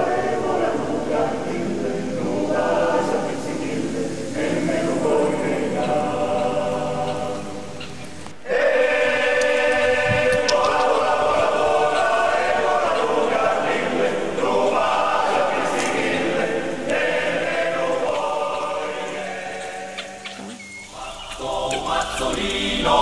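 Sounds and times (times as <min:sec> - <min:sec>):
choir singing a cappella: 0:00.0 - 0:23.0.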